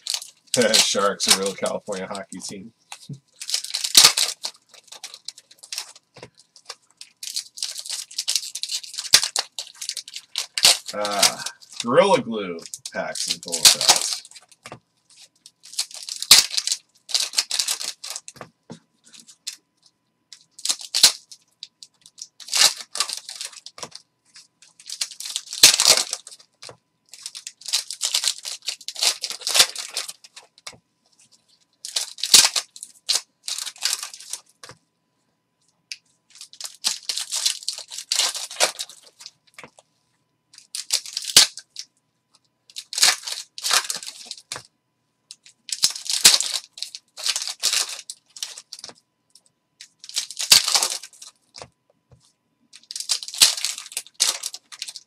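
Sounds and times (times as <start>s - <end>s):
wrappers ripping and crinkling: 0.0s - 19.6s, 20.3s - 34.8s, 35.9s - 39.8s, 40.6s - 41.9s, 42.7s - 44.7s, 45.3s - 49.0s, 49.8s - 51.7s, 52.7s - 55.0s.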